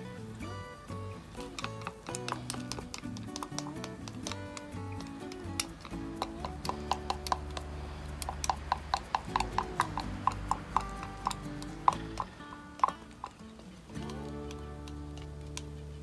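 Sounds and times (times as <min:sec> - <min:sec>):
quick tapping percussion clicks: 0:00.0 - 0:15.7
held low notes: 0:00.0 - 0:16.0.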